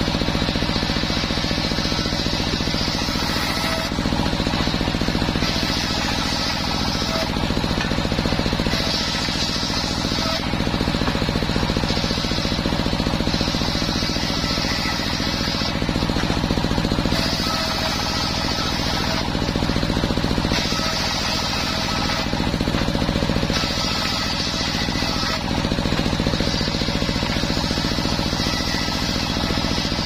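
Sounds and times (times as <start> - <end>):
engine beating rapidly: 0.0 - 30.0.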